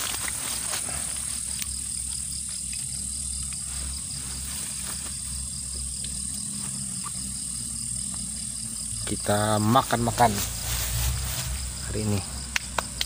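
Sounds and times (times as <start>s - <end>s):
crickets trilling: 0.0s - 13.0s
fast pulsing insect chirp: 0.0s - 13.0s
steady low rumble: 0.0s - 13.0s.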